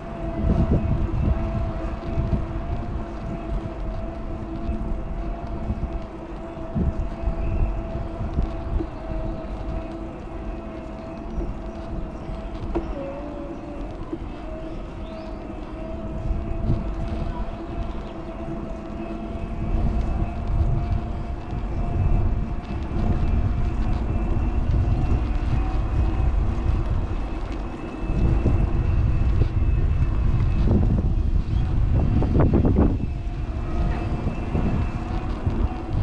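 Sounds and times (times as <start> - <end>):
faint steady whine: 0.0 - 36.0
wind buffeting microphone: 0.0 - 36.0.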